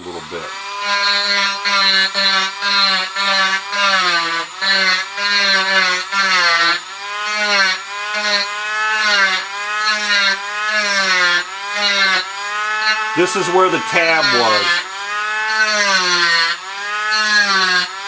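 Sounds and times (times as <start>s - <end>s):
rotary tool grinding wood: 0.0s - 18.0s.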